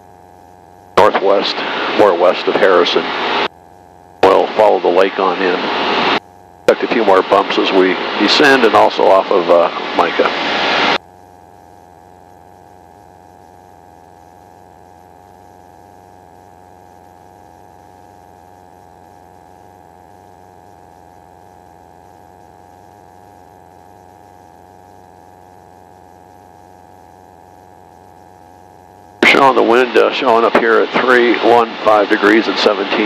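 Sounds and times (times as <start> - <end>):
light aircraft cockpit drone: 0.0 - 33.0.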